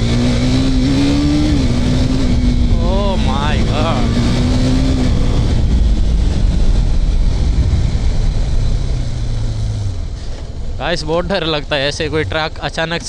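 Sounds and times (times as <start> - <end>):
low steady hum: 0.0 - 13.0
motorcycle engine running: 0.0 - 13.0
wind rushing on microphone: 0.4 - 13.0.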